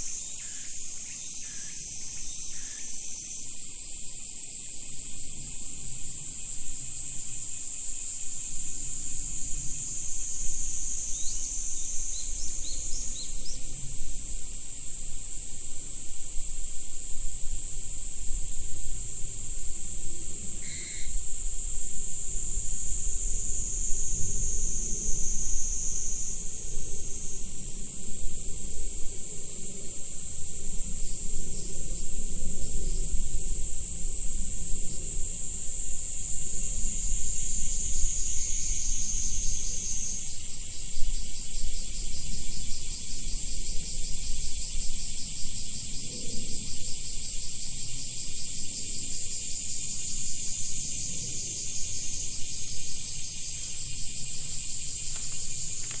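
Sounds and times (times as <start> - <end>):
insects trilling: 0.0 - 56.0
lower insect trill: 0.0 - 56.0.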